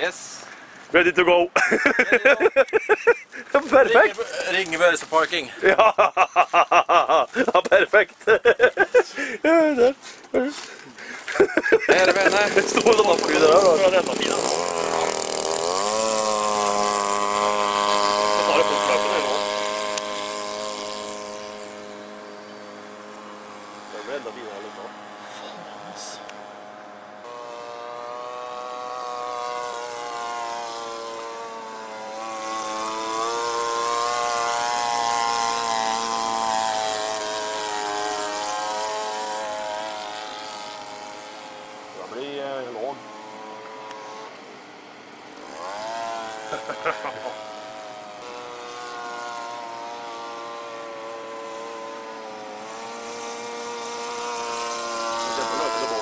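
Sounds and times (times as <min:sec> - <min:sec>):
model airplane engine in flight: 0:10.7 - 0:56.0.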